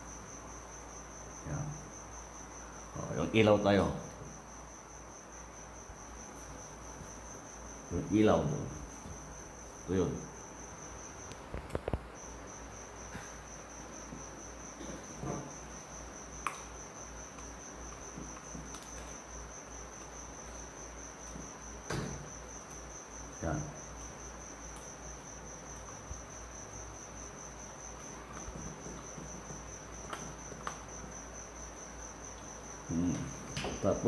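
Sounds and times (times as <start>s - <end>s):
cricket trilling: 0.0s - 34.0s.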